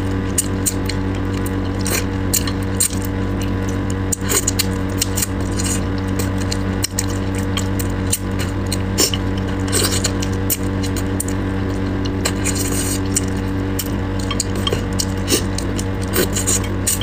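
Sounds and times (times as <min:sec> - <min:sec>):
steady low hum: 0:00.0 - 0:17.0
person chewing with lip smacks: 0:00.4 - 0:17.0.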